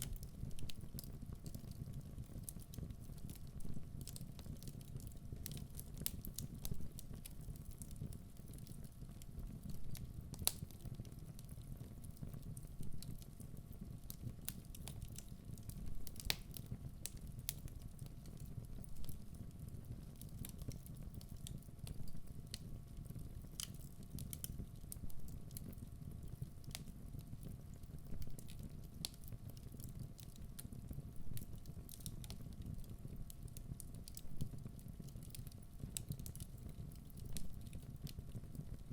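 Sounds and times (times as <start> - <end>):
fire rumbling: 0.0 - 38.9
logs crackling and popping: 0.0 - 38.9.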